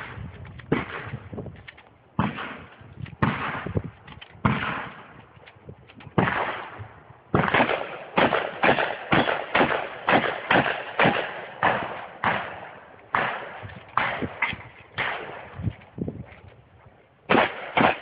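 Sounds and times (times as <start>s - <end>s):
shotgun shots: 0.0s - 1.4s, 2.2s - 5.2s, 6.2s - 15.7s, 17.3s - 18.0s.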